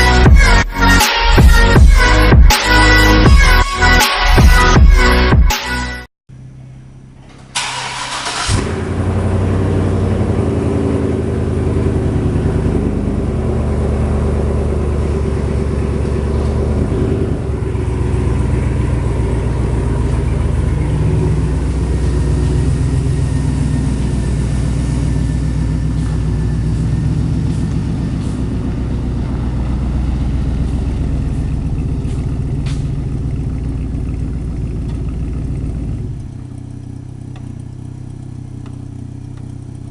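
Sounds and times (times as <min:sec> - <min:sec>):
vehicle engine starting and running: 0:00.0 - 0:39.9.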